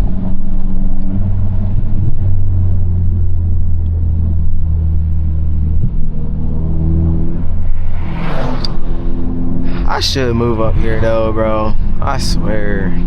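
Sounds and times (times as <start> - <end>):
car engine drone in cabin: 0.0 - 13.0.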